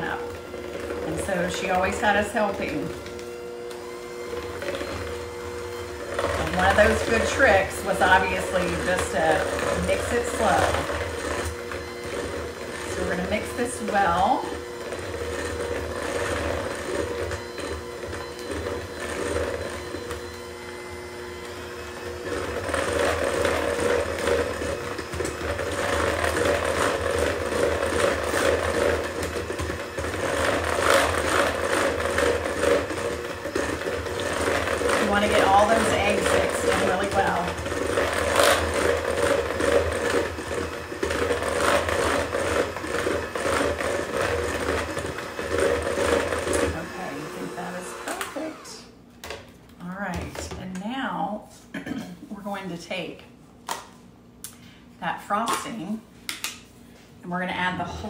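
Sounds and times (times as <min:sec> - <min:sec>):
electric hand mixer whirring: 0:00.0 - 0:51.4, 0:56.8 - 0:58.0.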